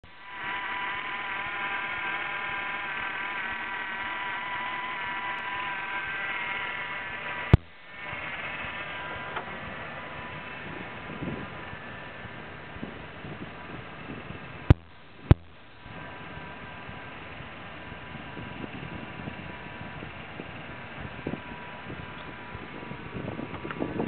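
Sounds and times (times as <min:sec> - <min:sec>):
car engine idling with whine: 0:00.0 - 0:24.0.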